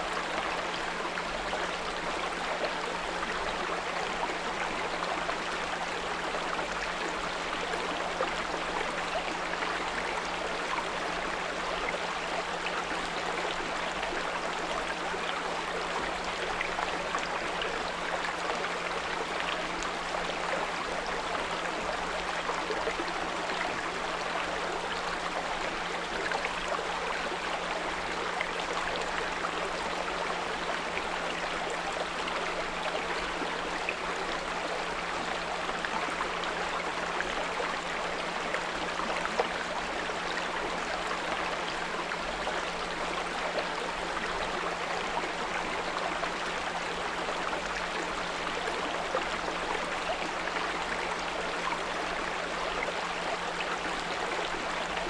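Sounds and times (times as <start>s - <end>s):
brook babbling over stones: 0.0s - 55.0s.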